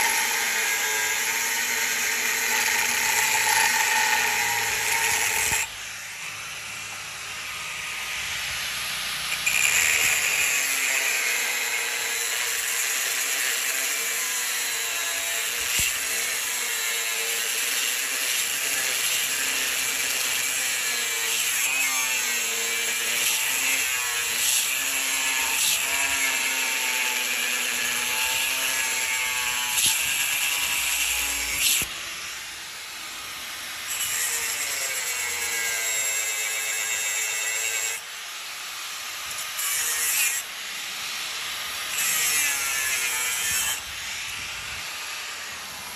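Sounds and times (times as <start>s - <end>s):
power tool cutting steel: 0.0s - 45.9s.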